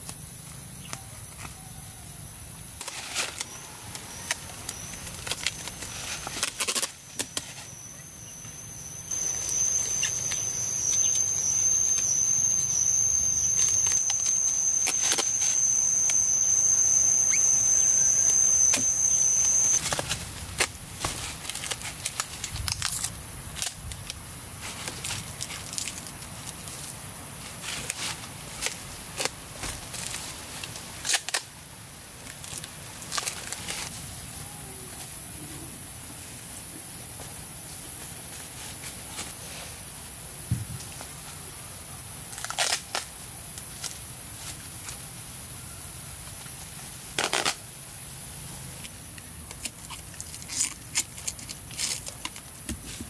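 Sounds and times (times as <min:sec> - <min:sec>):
constant high hiss: 0:00.0 - 0:53.0
high thin insect call: 0:00.0 - 0:53.0.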